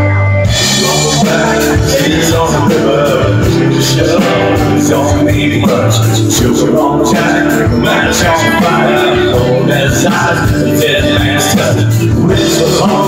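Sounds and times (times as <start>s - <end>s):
acoustic guitar: 0.0s - 13.0s
bass guitar: 0.0s - 13.0s
electric guitar: 0.0s - 13.0s
steady drum beat: 0.5s - 13.0s.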